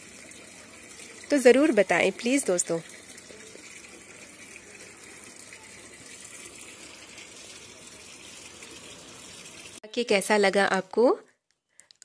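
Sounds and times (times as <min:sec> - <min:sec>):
fountain water splashing into basin: 0:00.0 - 0:09.8.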